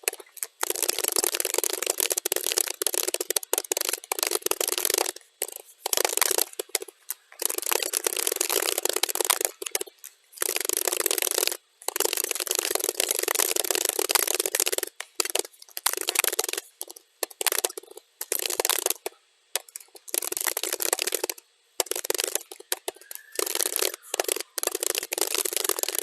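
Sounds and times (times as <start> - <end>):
sped-up keyboard typing: 0.0 - 26.0.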